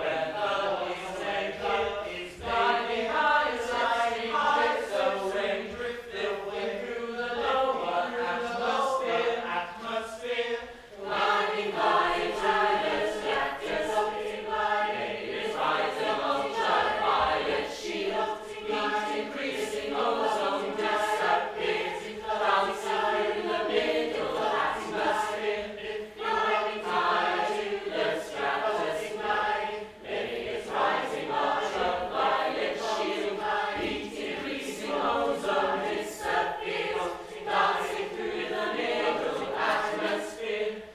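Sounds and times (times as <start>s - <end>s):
choir chanting: 0.0s - 40.9s.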